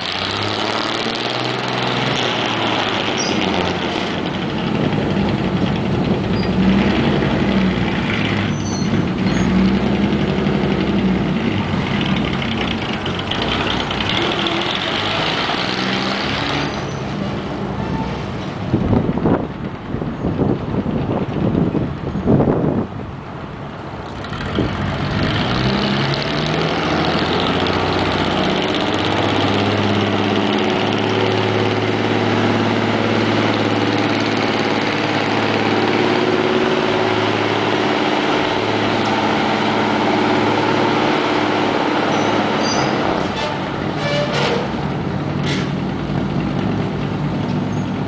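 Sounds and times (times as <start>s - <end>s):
fire truck engine: 0.0s - 48.0s.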